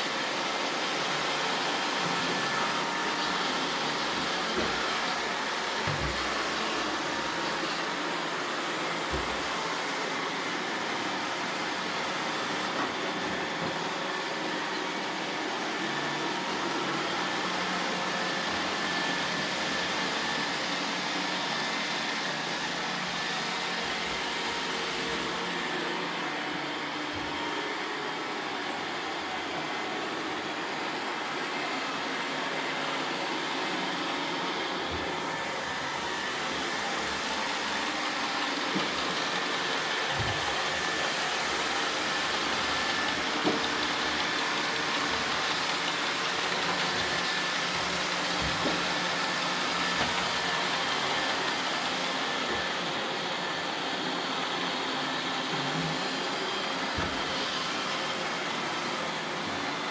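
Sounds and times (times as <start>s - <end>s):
robot vacuum whirring: 0.0s - 59.9s.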